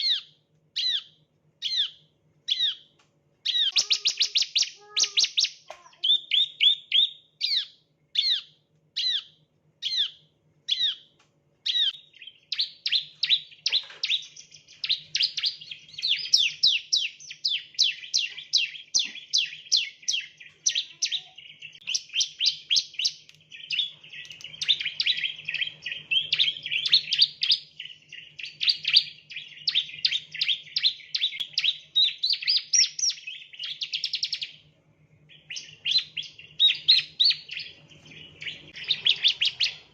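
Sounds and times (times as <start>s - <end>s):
bird singing high chirps: 0.0s - 34.6s, 35.2s - 39.9s.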